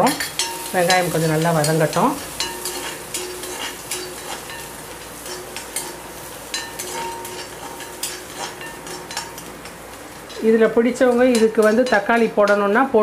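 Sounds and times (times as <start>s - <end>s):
onion sizzling in oil: 0.0s - 13.0s
metal spatula scraping pan: 0.2s - 12.6s.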